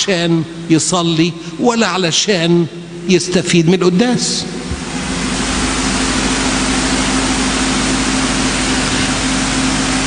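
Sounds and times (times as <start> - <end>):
loud steady hiss: 0.0 - 10.0
low even hum: 0.0 - 10.0.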